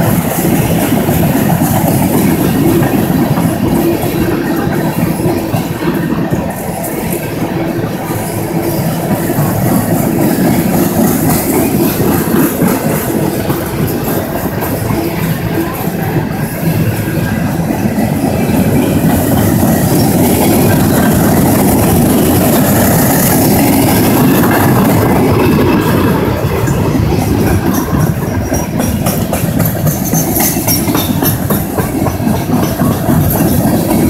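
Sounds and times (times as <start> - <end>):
freight train wheels rumbling: 0.0 - 34.0
wheels clicking over rail joints: 0.0 - 34.0.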